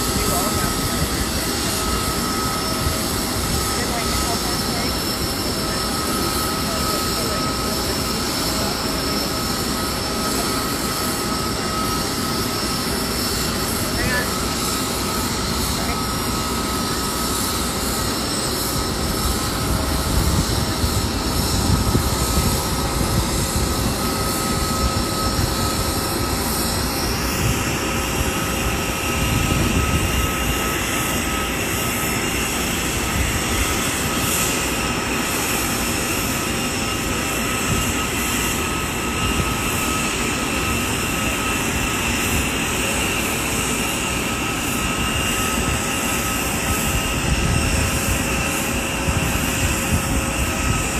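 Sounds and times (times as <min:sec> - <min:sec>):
jet engine whine and rumble: 0:00.0 - 0:50.9.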